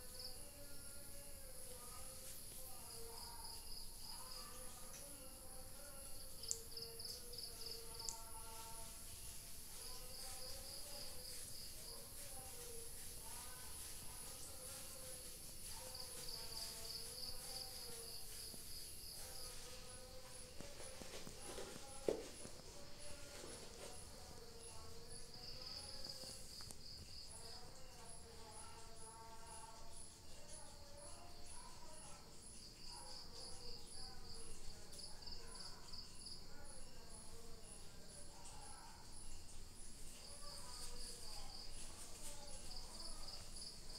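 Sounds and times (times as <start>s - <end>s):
insect chirring: 0.0s - 21.0s, 23.9s - 43.9s.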